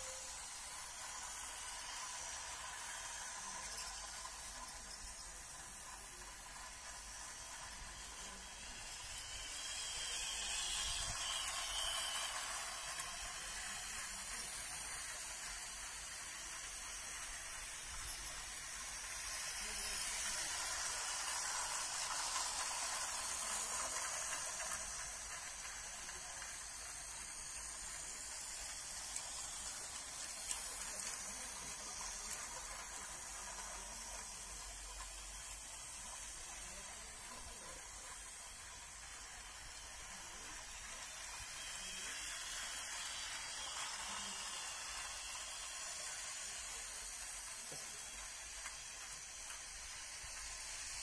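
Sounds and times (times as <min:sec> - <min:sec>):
toy train whirring on track: 0:00.0 - 0:51.0.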